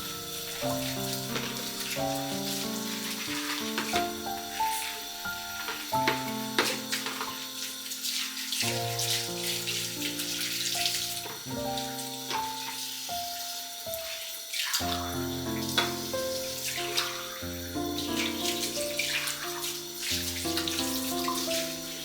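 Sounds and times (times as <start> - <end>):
tap water splashing into sink: 0.0 - 22.0.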